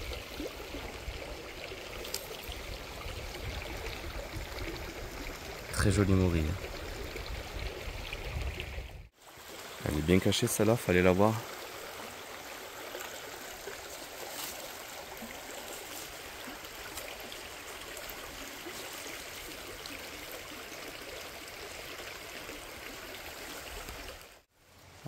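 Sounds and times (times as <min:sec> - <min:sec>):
stream rushing: 0:00.0 - 0:25.0.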